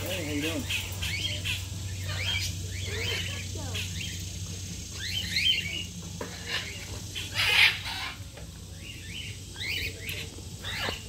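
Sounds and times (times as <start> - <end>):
animal chirping and squawking: 0.0 - 4.3, 5.0 - 11.0
steady low hum: 0.0 - 11.0.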